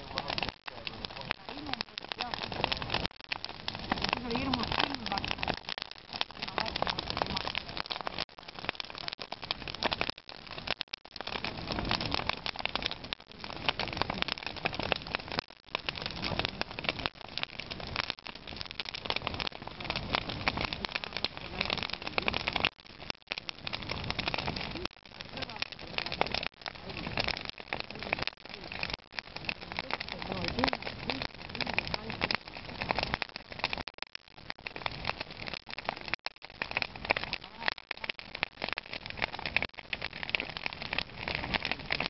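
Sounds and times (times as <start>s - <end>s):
fire crackling: 0.0s - 42.0s.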